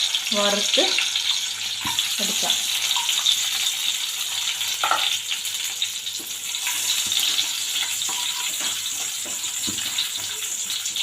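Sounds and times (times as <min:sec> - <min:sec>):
nuts sizzling in a pan: 0:00.0 - 0:11.0.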